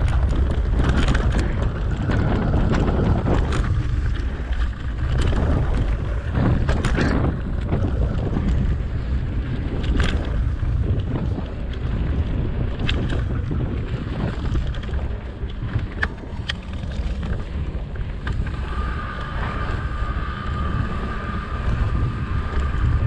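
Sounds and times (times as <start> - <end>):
bike clicks and rattles: 0.0 - 23.0
wind buffeting microphone: 0.0 - 23.0.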